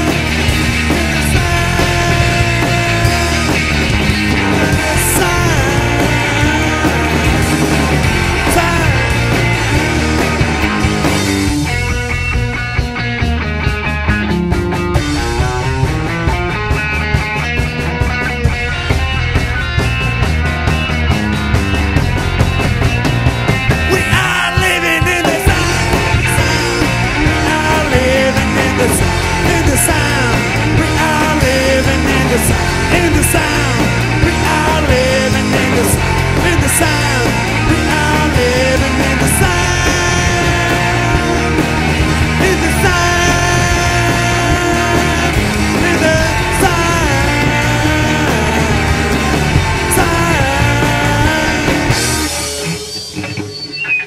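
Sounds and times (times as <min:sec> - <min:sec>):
bending guitar line: 0:00.0 - 0:54.0
live rock band playing: 0:00.0 - 0:54.0.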